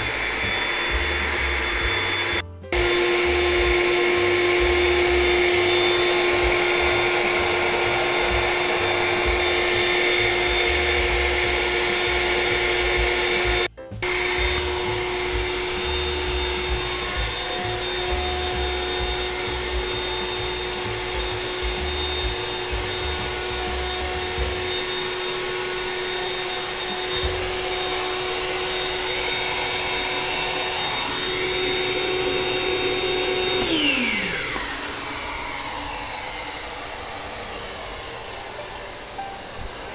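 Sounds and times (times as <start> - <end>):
electric air pump humming: 0.0 - 39.9.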